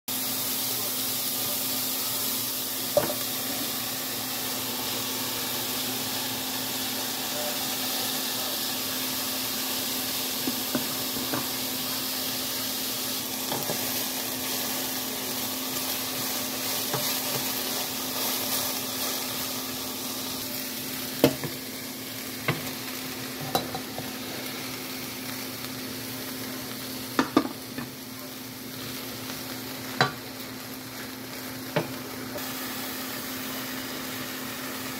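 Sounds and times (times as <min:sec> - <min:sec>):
vegetables sizzling in oil: 0:00.1 - 0:34.9.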